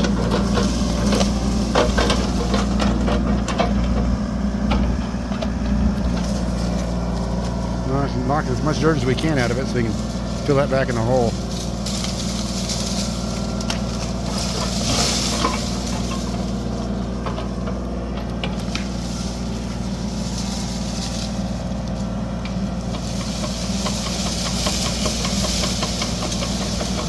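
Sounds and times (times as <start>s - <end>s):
machine clanks and scrapes: 0.0s - 27.0s
mini excavator diesel engine: 0.0s - 27.0s.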